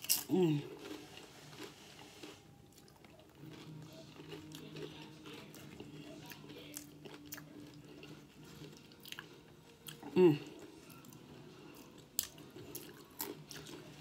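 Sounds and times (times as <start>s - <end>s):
crisp crunching of tortilla chips: 0.0s - 14.0s.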